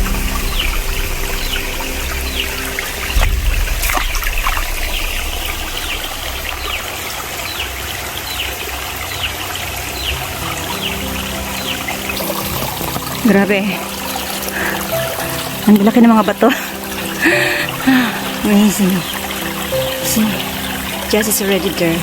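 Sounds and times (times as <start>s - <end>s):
background music: 0.0s - 7.3s, 9.9s - 22.0s
stream water splashing over rocks: 0.0s - 22.0s.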